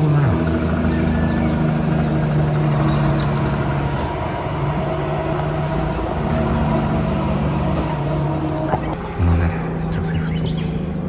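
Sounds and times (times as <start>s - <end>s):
rushing background noise: 0.0s - 11.0s
vehicle engine hum: 0.0s - 11.0s.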